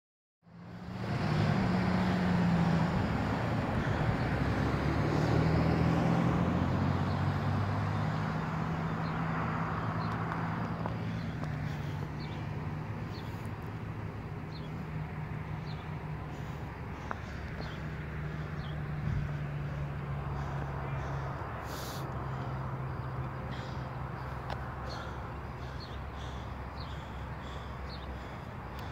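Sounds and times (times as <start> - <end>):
highway traffic hum: 0.4 - 28.9.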